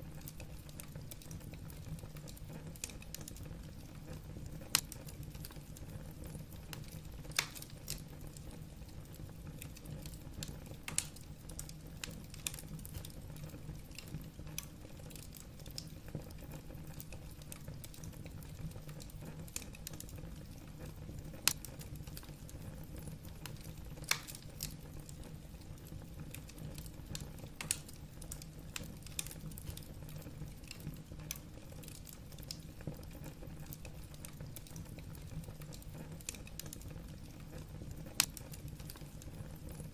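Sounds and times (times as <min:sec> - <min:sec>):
logs crackling and popping in fire: 0:00.0 - 0:39.9
low fire rumble: 0:00.0 - 0:39.9.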